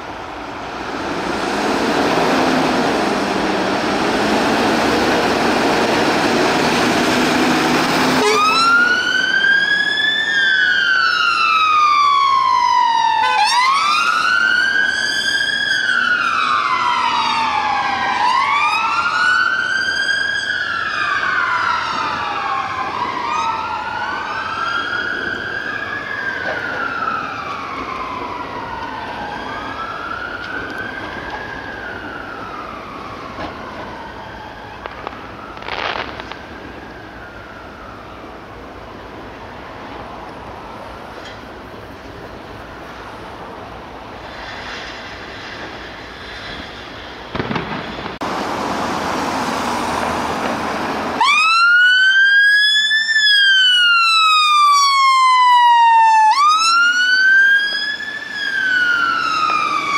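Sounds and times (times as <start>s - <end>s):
emergency vehicle sirens wailing: 0.0s - 59.9s
vehicle noise: 0.0s - 59.9s.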